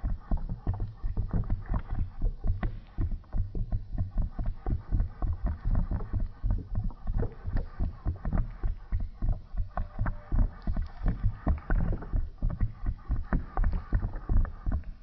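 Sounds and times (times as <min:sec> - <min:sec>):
water bubbling in a bong: 0:00.0 - 0:15.0.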